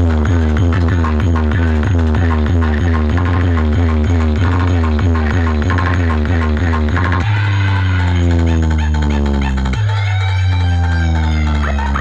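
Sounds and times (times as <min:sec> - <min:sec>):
loud electronic dance music: 0:00.0 - 0:12.0.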